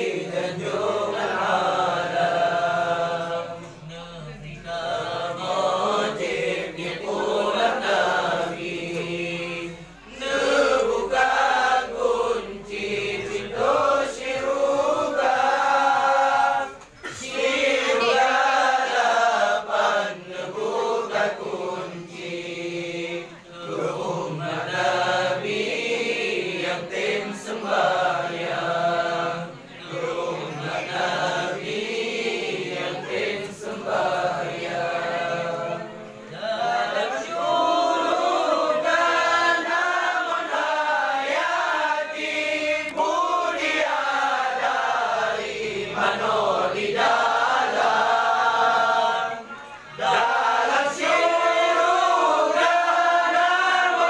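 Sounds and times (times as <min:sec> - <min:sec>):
men chanting in unison: 0:00.0 - 0:54.0.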